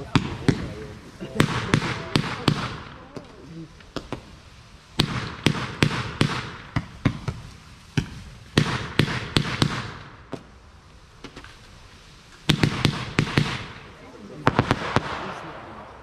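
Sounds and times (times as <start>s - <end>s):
small firework pops: 0.0s - 4.4s, 5.0s - 10.6s, 11.2s - 11.7s, 12.3s - 16.0s
fireworks bangs with hiss: 0.0s - 16.0s.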